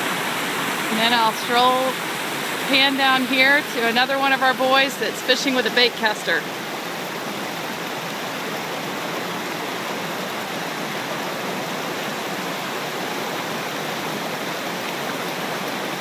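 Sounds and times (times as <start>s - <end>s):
creek water running over rocks: 0.0s - 16.0s.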